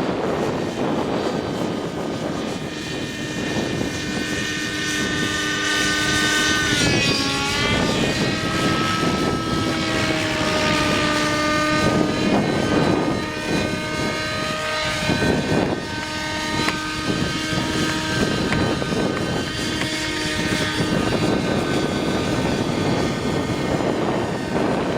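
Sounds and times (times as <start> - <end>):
model helicopter rotor whine: 0.0 - 24.9
wind buffeting microphone: 0.0 - 24.9.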